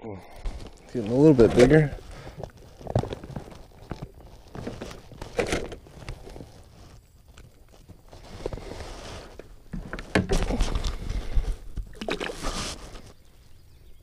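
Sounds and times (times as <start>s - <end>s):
hands handling fish and tackle: 0.4s - 13.2s.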